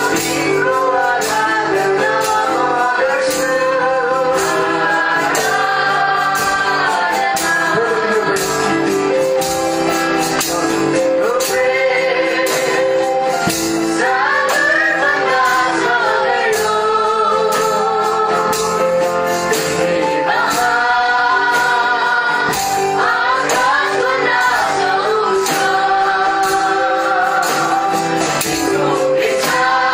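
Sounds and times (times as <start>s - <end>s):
song with singing: 0.0s - 29.9s
steady percussion beat: 0.0s - 29.9s.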